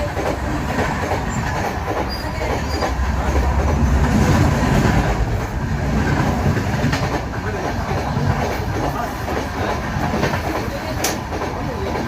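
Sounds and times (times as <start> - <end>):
clickety-clack of rail joints: 0.0 - 12.0
train wheels rumbling: 0.0 - 12.0.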